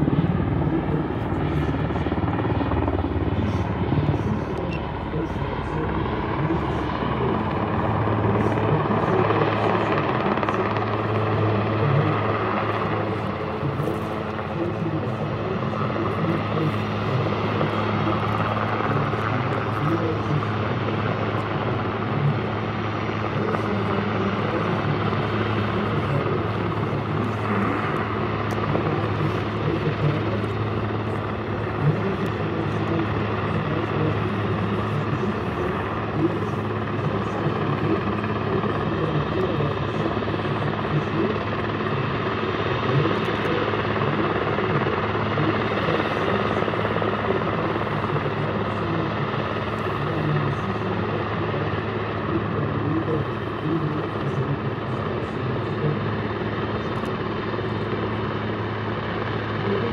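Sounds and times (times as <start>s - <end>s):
helicopter flying low: 0.0s - 59.9s.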